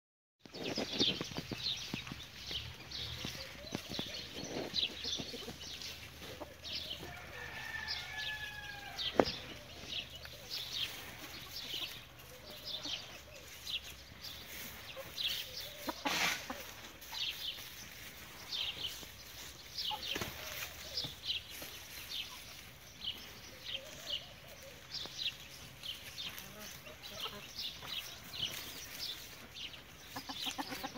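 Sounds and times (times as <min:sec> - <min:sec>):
chickens clucking: 0:00.4 - 0:30.9.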